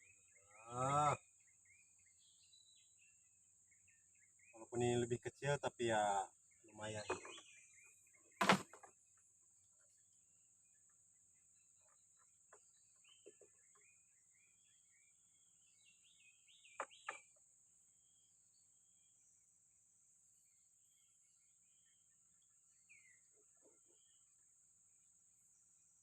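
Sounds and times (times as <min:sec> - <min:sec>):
birds chirping: 0:00.0 - 0:25.6.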